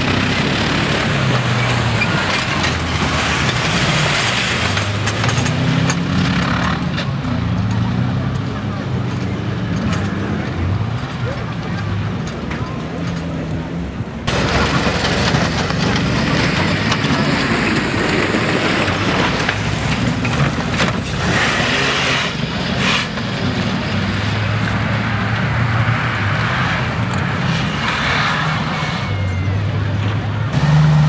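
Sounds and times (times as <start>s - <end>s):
off-road engines running hard: 0.0s - 31.0s.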